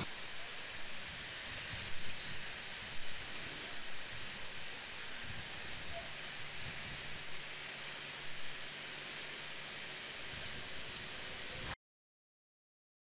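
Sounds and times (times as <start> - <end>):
steady background hiss: 0.0 - 11.8.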